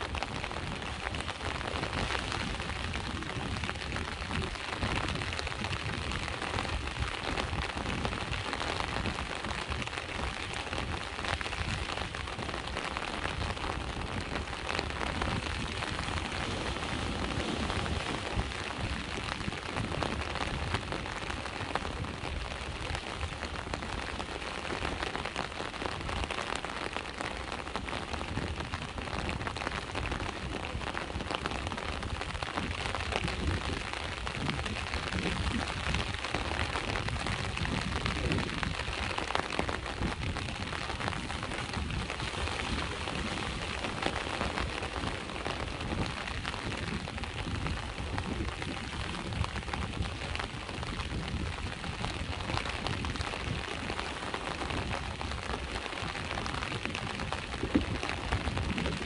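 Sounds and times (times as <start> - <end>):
low rumble of surf: 0.0 - 59.0
steady rain falling: 0.0 - 59.0.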